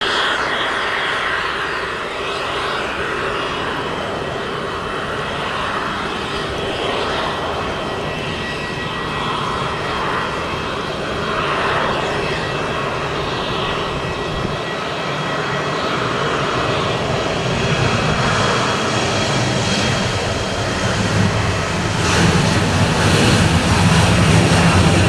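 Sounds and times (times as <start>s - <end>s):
jet engines at takeoff power: 0.0s - 25.0s.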